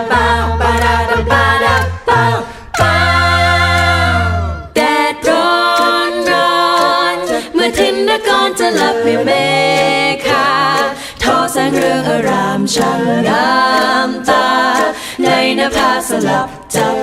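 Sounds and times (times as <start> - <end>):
vocal group singing in harmony: 0.0 - 17.0.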